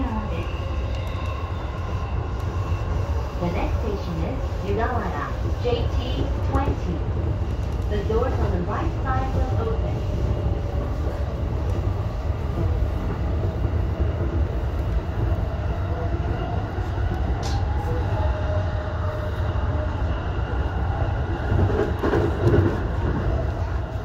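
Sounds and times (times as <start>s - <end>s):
train rumble on rails: 0.0s - 24.0s.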